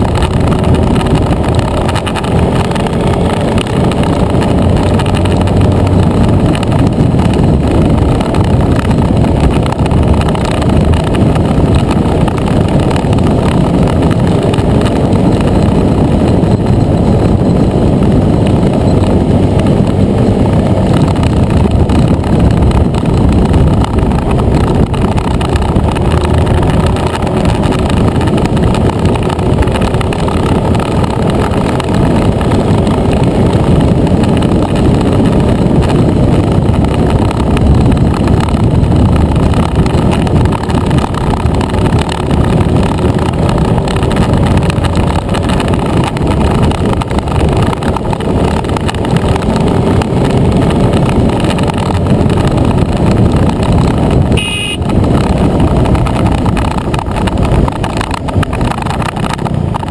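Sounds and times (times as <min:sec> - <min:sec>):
scooter engine droning: 0:00.0 - 0:59.9
wind rumble: 0:00.0 - 0:59.9.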